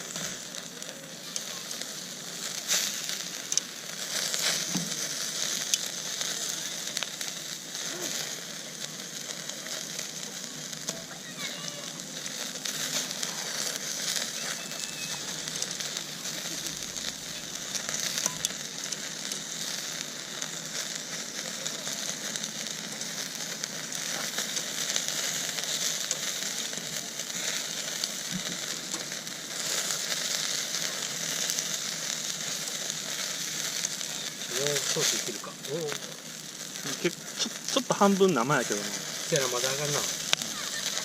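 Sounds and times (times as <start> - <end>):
fire popping: 0.0 - 41.0
meat sizzling over campfire: 0.0 - 41.0.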